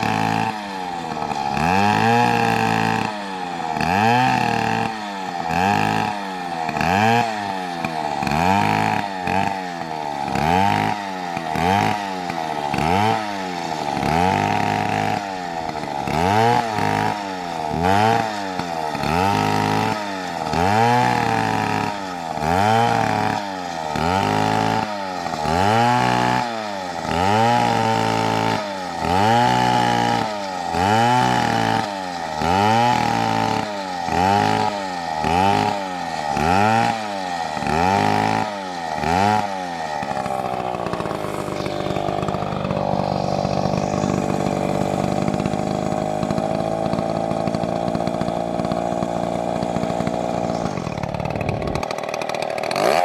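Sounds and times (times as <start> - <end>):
chainsaw engine revving: 0.0 - 53.0.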